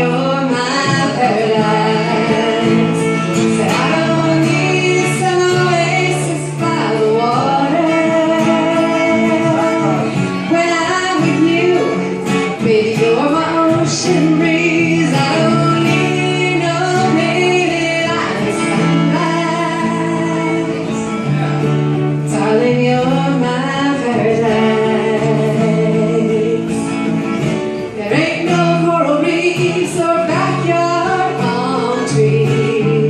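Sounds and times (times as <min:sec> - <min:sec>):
person singing: 0:00.0 - 0:27.1, 0:27.8 - 0:33.0
guitar: 0:00.0 - 0:33.0.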